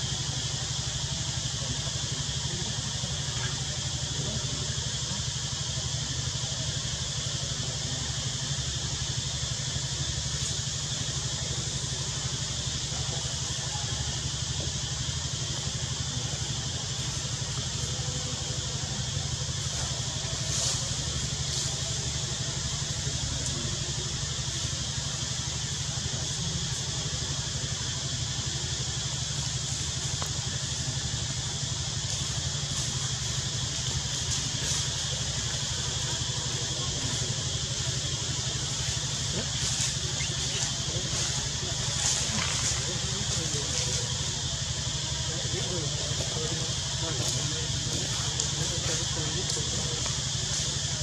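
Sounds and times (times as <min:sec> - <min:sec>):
constant high hiss: 0:00.0 - 0:51.0
motor idling: 0:00.0 - 0:51.0.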